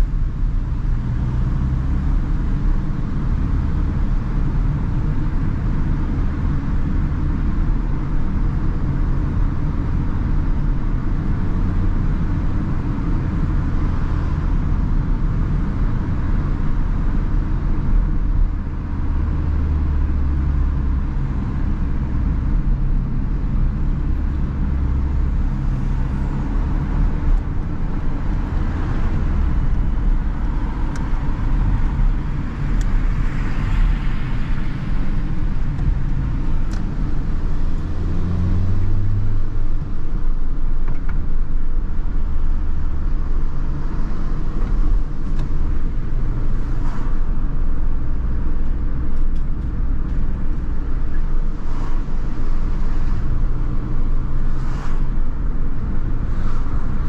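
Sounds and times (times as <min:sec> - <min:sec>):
car engine running: 0:00.0 - 0:57.0
tyre and road noise: 0:00.0 - 0:57.0.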